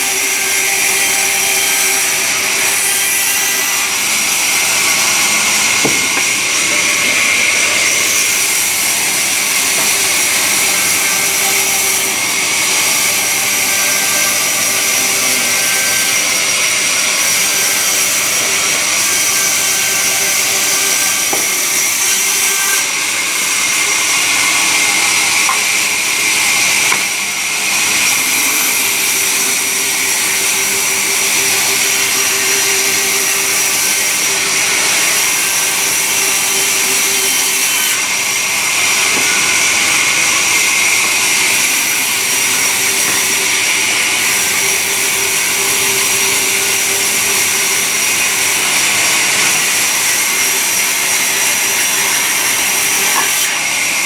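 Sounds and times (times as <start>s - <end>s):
sawmill saw whining: 0.0s - 54.0s.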